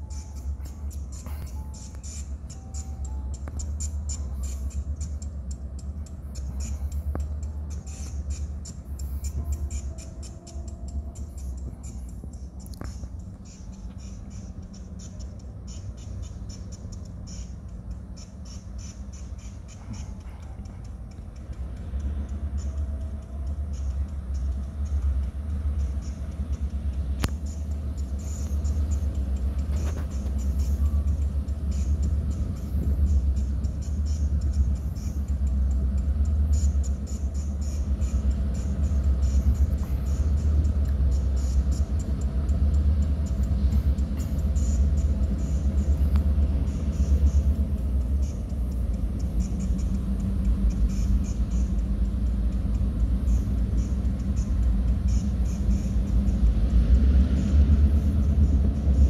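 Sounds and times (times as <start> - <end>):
diesel locomotive rumble: 0.0 - 59.0.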